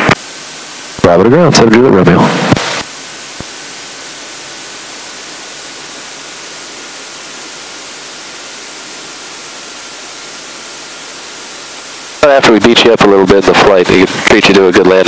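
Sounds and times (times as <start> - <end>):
faint thin whine: 0.0 - 15.0
radio intercom hiss: 0.0 - 15.0.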